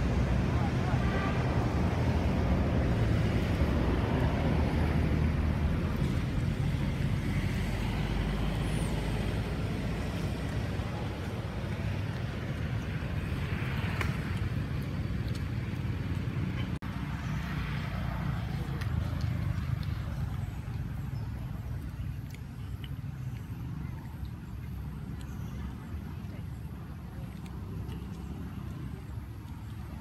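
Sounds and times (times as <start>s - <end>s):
low outdoor rumble: 0.0s - 30.0s.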